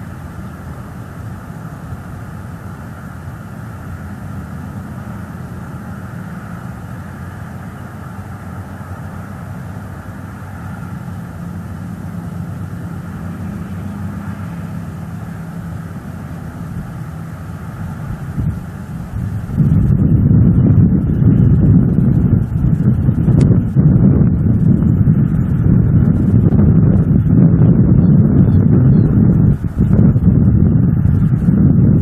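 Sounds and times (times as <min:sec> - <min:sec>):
low engine drone: 0:00.0 - 0:32.0.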